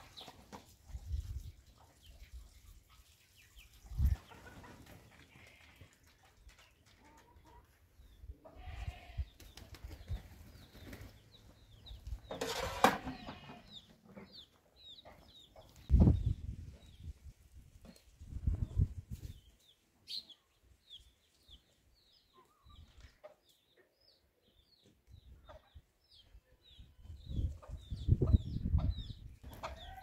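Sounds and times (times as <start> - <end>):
chickens clucking: 0.0 - 17.1, 17.8 - 30.0
small birds chirping: 1.1 - 12.4, 13.2 - 30.0.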